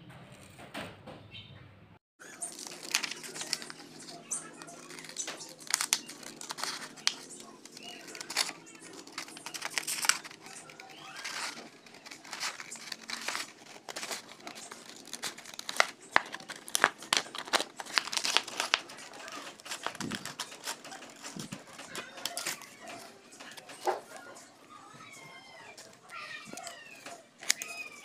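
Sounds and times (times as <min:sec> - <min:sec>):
paper rustling: 0:02.2 - 0:28.0
scissors snipping paper: 0:02.3 - 0:28.0.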